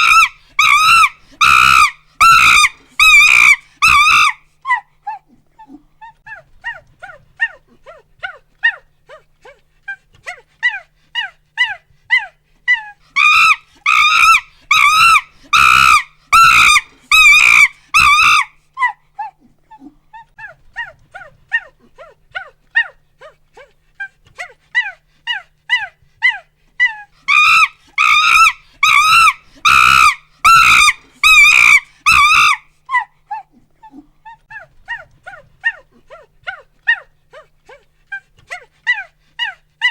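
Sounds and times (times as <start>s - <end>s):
chimpanzee pant-hoots and screams: 0.0s - 39.9s.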